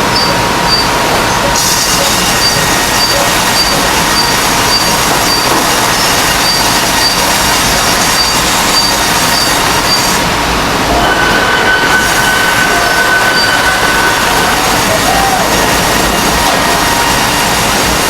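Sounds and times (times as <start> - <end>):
steady high whine: 0.0 - 18.0
high squeal: 0.1 - 10.3, 10.9 - 17.6.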